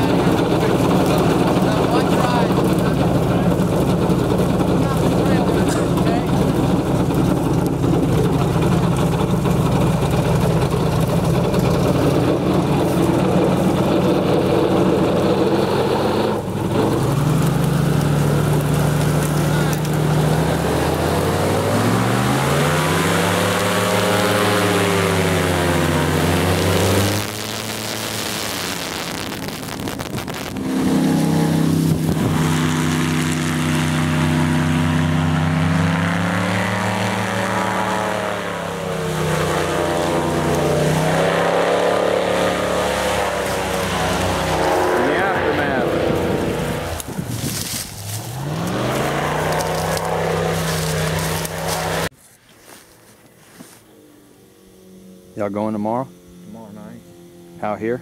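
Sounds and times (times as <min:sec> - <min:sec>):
airboat engine and propeller: 0:00.0 - 0:52.1, 0:52.9 - 0:58.0.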